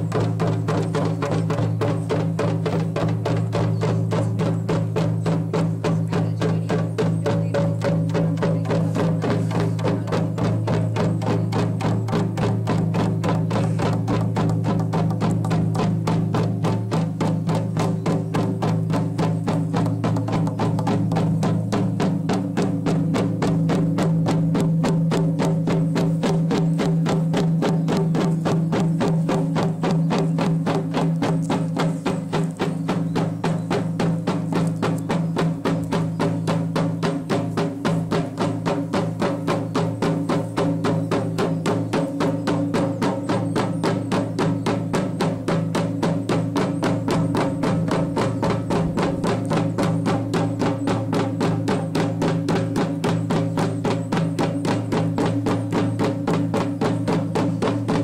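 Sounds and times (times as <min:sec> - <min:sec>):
frame drums beaten in rhythm: 0:00.0 - 0:58.0.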